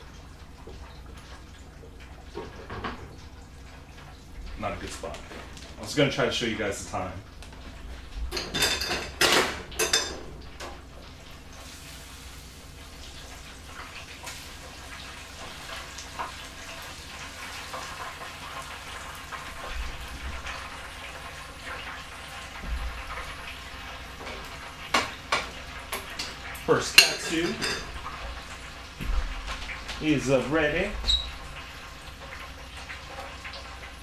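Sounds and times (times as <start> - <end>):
hot oil sizzling and crackling: 0.0 - 34.0.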